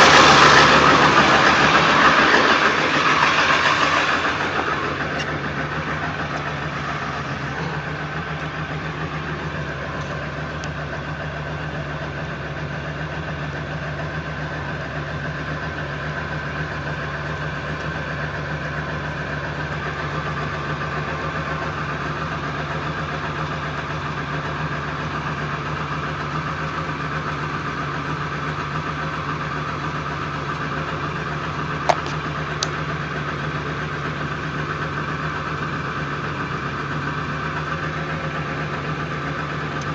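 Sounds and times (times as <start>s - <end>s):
diesel engine idling roughly: 0.0s - 39.9s.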